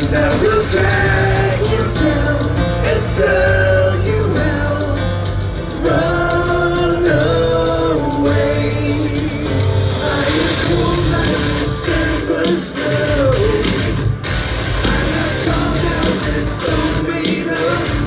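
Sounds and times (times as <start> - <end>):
drums: 0.0 - 18.0
guitars: 0.0 - 18.0
live hard rock band: 0.0 - 18.0
person singing: 0.0 - 18.0.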